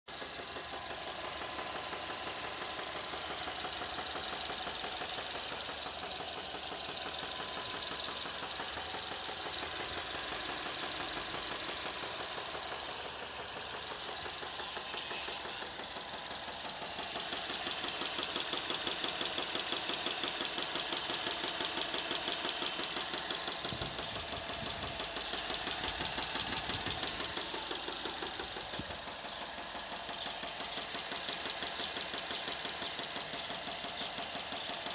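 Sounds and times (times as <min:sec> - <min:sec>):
car engine running with rapid knock: 0:00.1 - 0:34.9.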